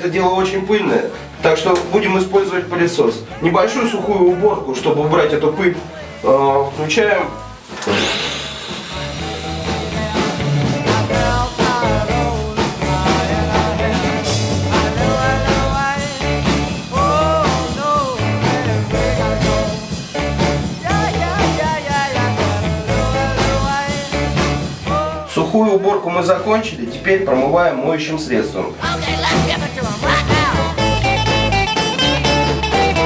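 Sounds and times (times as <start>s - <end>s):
background music with steady beat: 0.0s - 27.8s, 28.7s - 33.0s.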